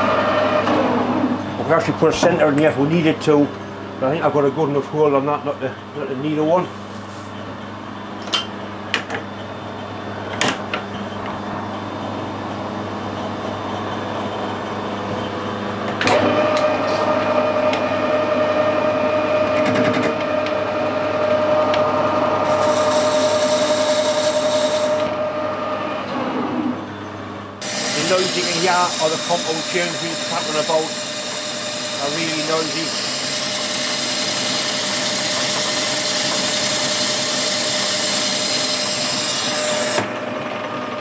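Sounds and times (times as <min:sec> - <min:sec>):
lathe gearing whine: 0:00.0 - 0:41.0.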